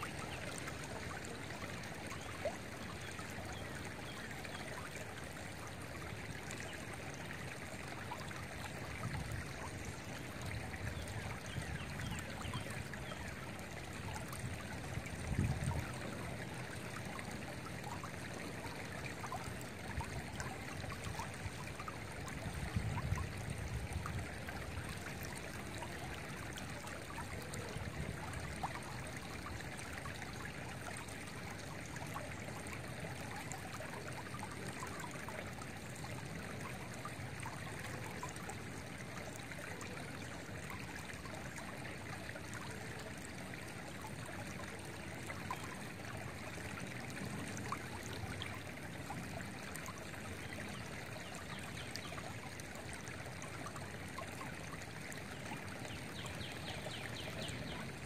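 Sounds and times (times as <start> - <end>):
creek babbling over stones: 0.0 - 58.0.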